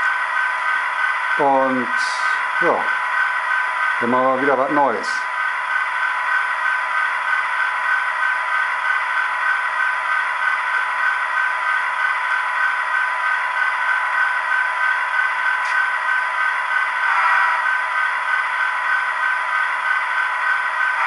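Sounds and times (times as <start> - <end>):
model locomotive engine idle sound: 0.0 - 21.0.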